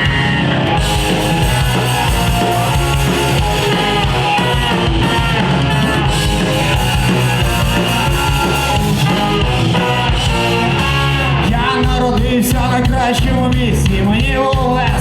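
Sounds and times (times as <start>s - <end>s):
electric guitars: 0.0s - 15.0s
rock band playing live: 0.0s - 15.0s.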